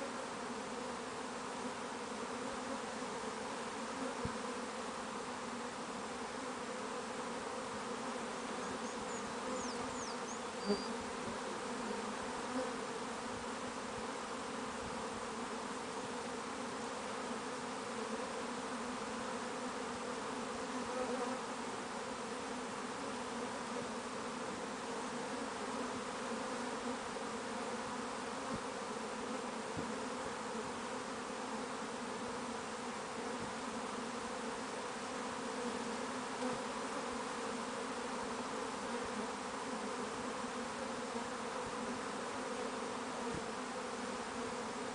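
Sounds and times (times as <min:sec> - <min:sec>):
swarm of bees buzzing: 0:00.0 - 0:44.9.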